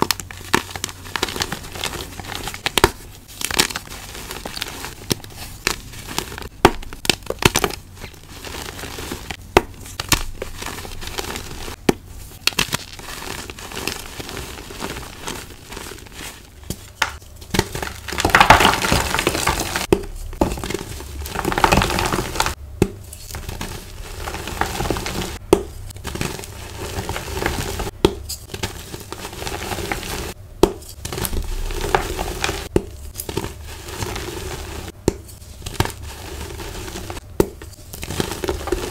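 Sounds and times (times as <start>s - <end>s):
hands crushing chalk blocks: 0.0s - 38.9s.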